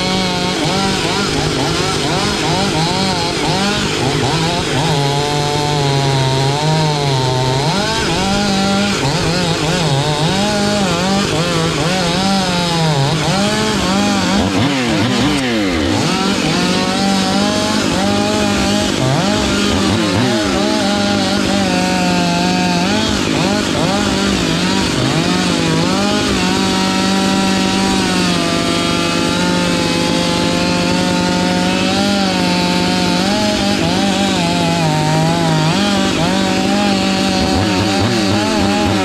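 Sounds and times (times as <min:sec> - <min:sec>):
chainsaw cutting wood: 0:00.0 - 0:39.0.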